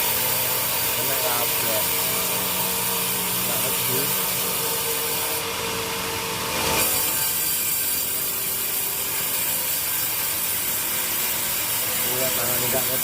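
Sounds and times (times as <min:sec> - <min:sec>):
saw hissing through wood: 0:00.0 - 0:05.6, 0:06.6 - 0:13.0
sawmill saw running: 0:00.0 - 0:13.0.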